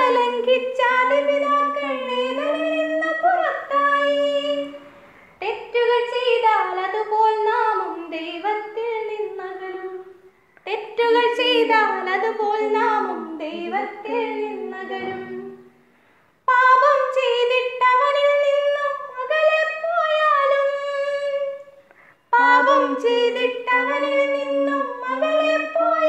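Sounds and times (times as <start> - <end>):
women singing unaccompanied: 0.0 - 15.7, 16.5 - 26.0.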